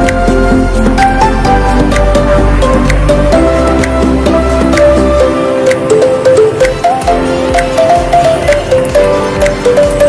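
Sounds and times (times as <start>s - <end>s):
background music with bass and percussion: 0.0s - 10.0s.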